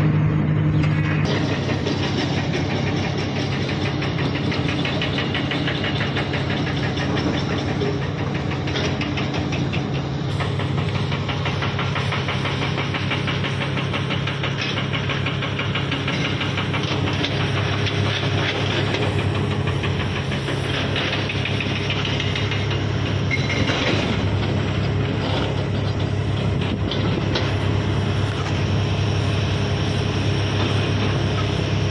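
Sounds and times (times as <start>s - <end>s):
excavator diesel engines: 0.0s - 31.9s.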